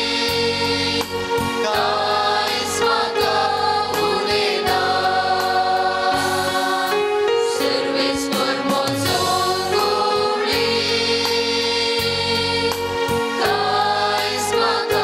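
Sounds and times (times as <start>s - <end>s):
choir singing a hymn: 0.0s - 15.0s
instrumental accompaniment: 0.0s - 15.0s.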